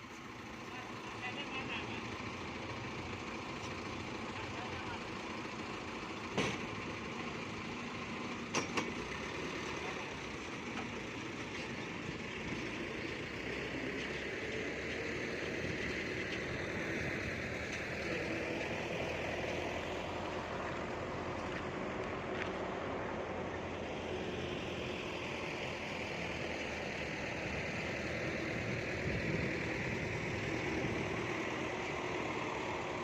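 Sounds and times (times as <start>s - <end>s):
truck engine running: 0.0s - 33.0s.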